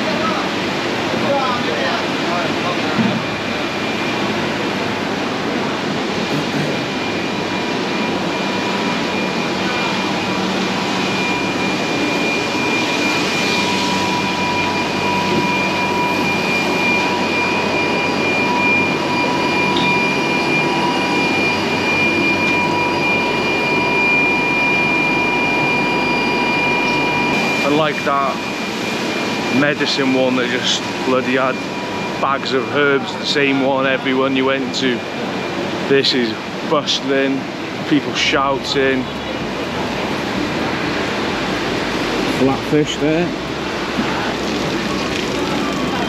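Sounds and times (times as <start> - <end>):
continuous rushing noise: 0.0 - 46.0
high machine whine: 0.0 - 46.0.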